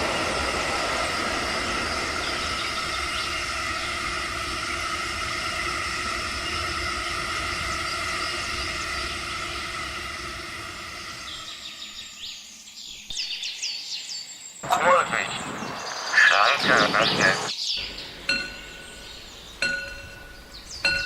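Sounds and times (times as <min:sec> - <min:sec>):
train humming: 0:00.0 - 0:12.3, 0:14.6 - 0:21.0
birds chirping: 0:00.0 - 0:21.0.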